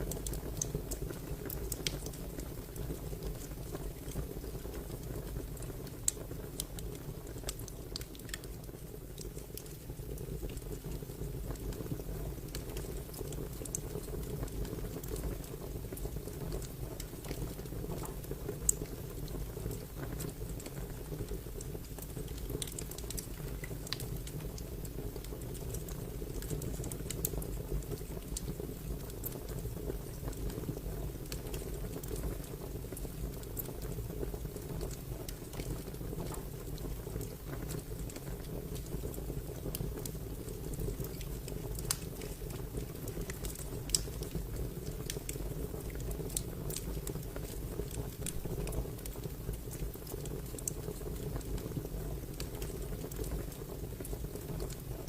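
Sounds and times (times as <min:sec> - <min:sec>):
wood fire popping and crackling: 0:00.0 - 0:55.0.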